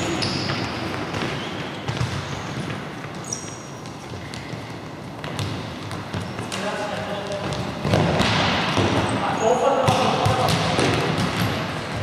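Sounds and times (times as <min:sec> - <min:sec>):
ball kicked and bouncing: 0:00.4 - 0:09.1, 0:09.8 - 0:12.0.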